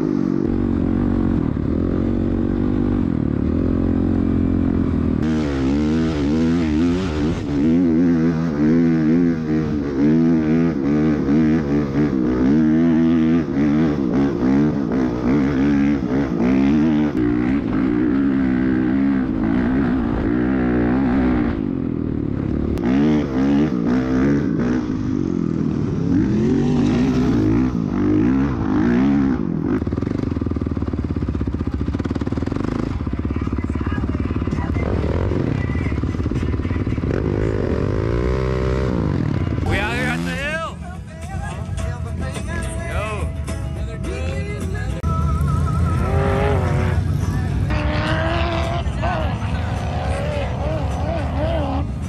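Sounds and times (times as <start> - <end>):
dirt bike engine revving: 0.0 - 40.8, 42.3 - 52.0.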